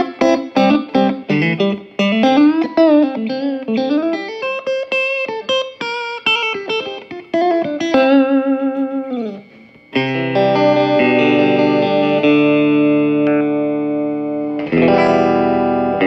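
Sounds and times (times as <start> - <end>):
electric guitar lead lines: 0.0 - 16.0.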